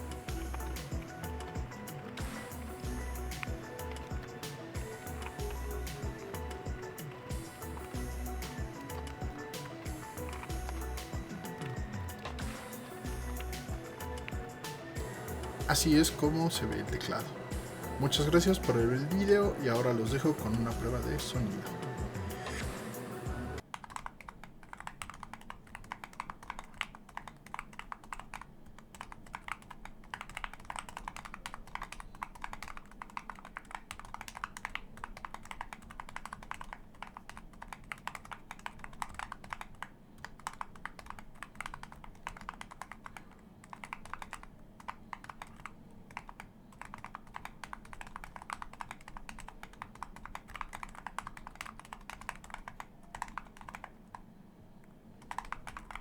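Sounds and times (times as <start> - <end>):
muted keyboard typing: 0.0 - 56.0.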